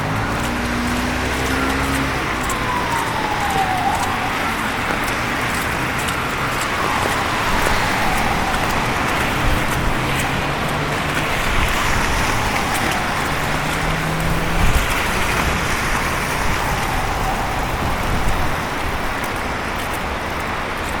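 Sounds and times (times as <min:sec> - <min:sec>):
cars passing with tyre noise: 0:00.0 - 0:21.0
vehicle engine hum: 0:00.0 - 0:21.0.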